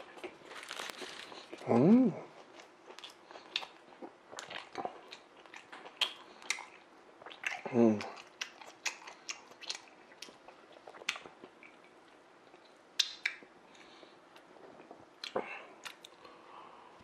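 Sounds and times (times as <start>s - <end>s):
mouth chewing with wet clicks: 2.4s - 16.3s.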